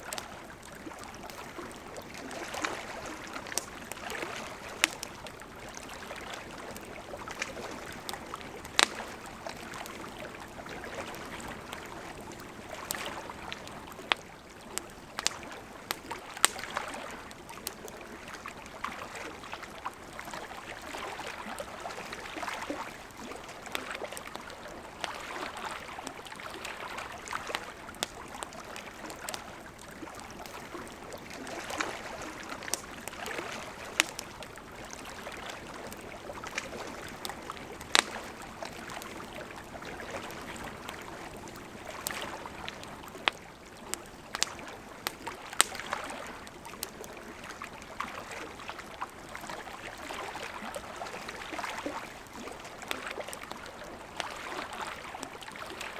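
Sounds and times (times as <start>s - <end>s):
campfire crackling and popping: 0.0s - 55.8s
river flowing: 0.0s - 55.9s.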